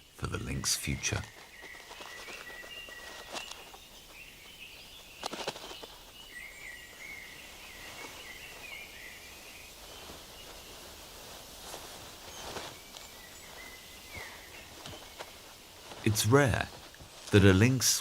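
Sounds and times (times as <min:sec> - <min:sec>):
faint high chirping: 0:00.0 - 0:16.7
dry leaves rustling: 0:00.9 - 0:18.0.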